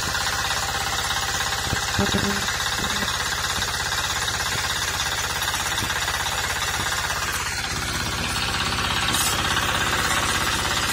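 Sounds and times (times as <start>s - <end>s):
diesel engine knocking: 0.0s - 10.9s.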